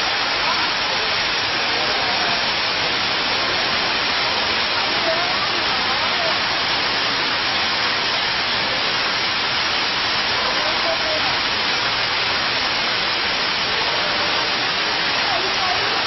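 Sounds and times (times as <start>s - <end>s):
fountain water splashing into pool: 0.0s - 16.0s.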